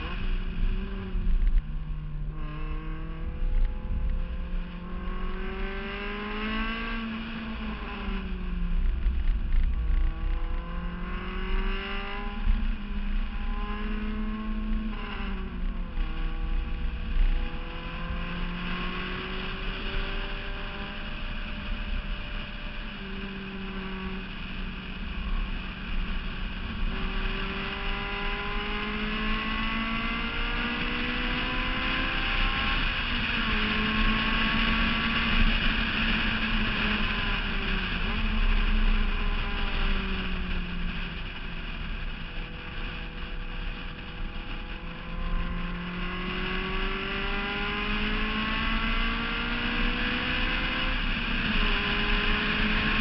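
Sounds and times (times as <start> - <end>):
car engine revving through gears: 0.0 - 53.0
wind rumble on microphone: 0.0 - 53.0.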